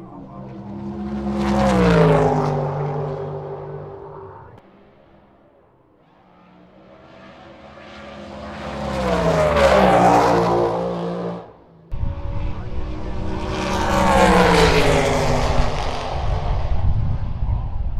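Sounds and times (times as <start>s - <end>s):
drag racing cars passing: 0.0s - 17.9s.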